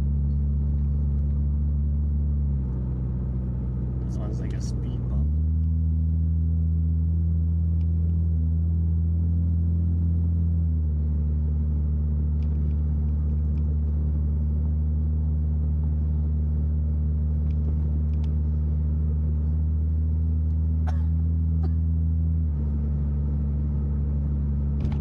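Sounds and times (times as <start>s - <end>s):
car engine droning from cabin: 0.0s - 25.0s.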